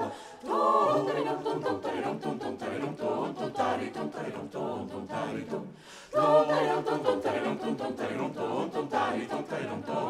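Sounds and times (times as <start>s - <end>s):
a cappella choir singing: 0.0s - 10.0s.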